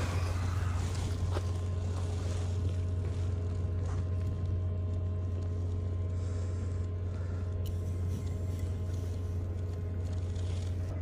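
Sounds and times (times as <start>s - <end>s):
faint steady tones: 0.0s - 11.0s
large engine drone: 0.0s - 11.0s.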